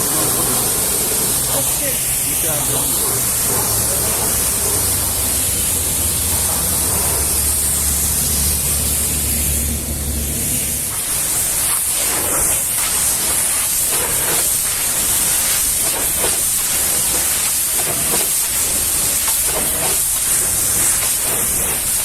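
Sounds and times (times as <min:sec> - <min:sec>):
pressure washer spraying water: 0:00.0 - 0:22.0.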